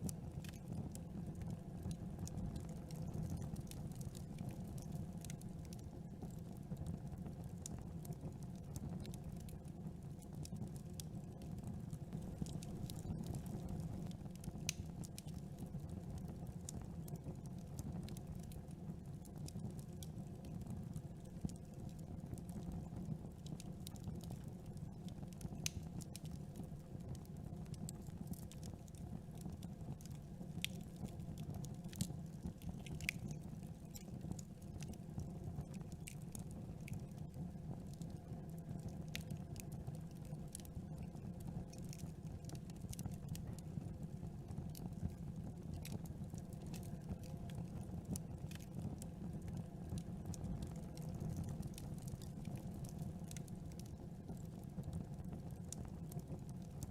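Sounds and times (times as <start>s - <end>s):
campfire wood crackling and popping: 0.0s - 56.9s.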